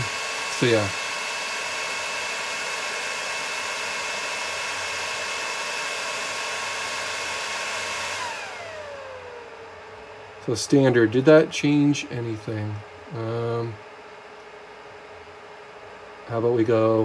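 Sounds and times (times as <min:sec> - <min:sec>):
server cooling fans whining: 0:00.0 - 0:17.0.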